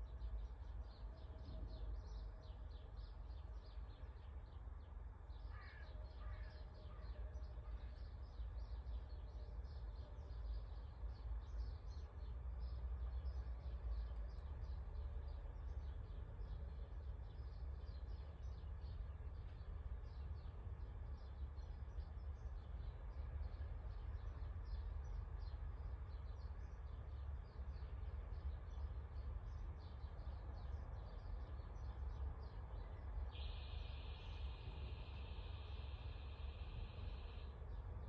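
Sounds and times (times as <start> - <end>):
continuous high bird trill: 0.0 - 38.0.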